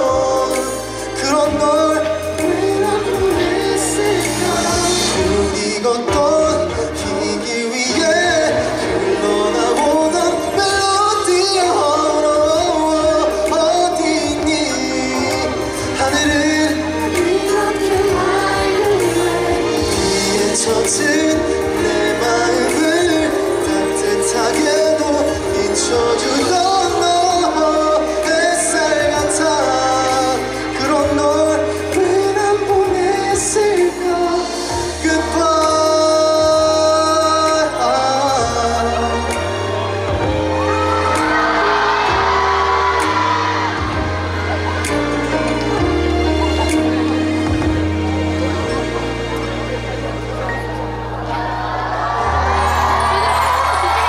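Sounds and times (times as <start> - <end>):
man singing a ballad: 0.0 - 45.5
backing band playing: 0.0 - 54.0
musical accompaniment: 0.0 - 54.0.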